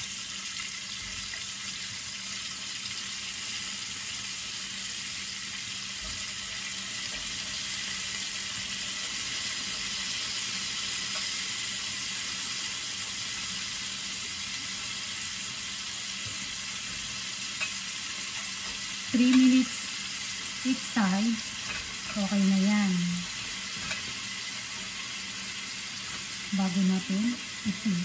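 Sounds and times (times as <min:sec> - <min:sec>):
crab sizzling in a frying pan: 0:00.0 - 0:28.0.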